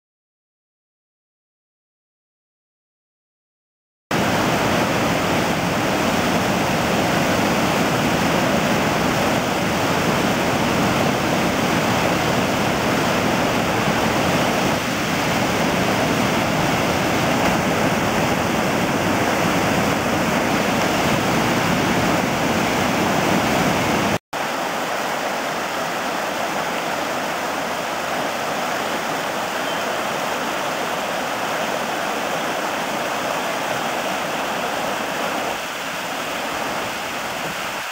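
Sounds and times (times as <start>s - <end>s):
creek flowing over rapids: 4.1s - 37.9s.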